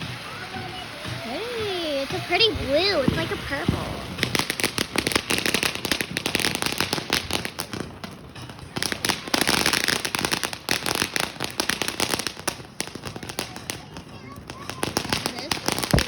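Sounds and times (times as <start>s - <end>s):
fireworks popping and crackling: 0.0s - 16.0s.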